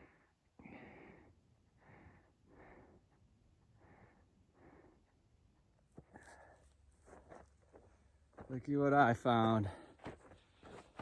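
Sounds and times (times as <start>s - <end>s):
runner breathing: 0.0s - 8.6s, 9.4s - 11.0s.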